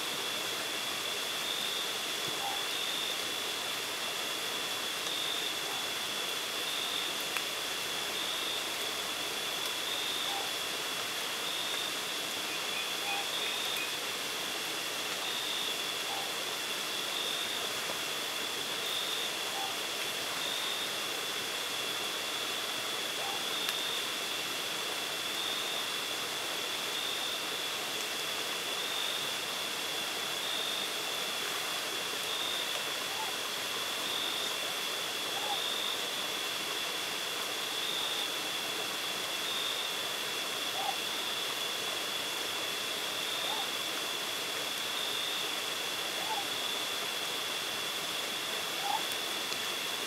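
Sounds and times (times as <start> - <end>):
constant hiss: 0.0 - 50.0.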